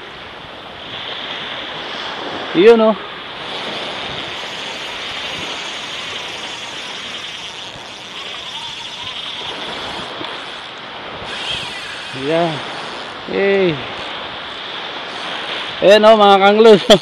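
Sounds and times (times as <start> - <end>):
waves washing up a sandy beach: 0.0 - 17.0.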